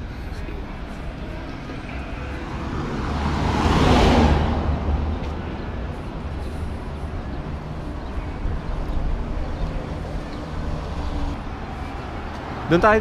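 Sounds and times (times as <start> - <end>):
vehicle passing by: 1.5 - 13.0.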